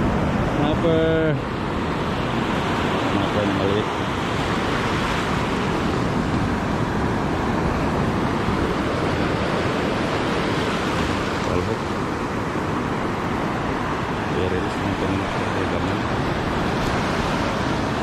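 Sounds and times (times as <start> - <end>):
surf breaking on beach: 0.0 - 18.0.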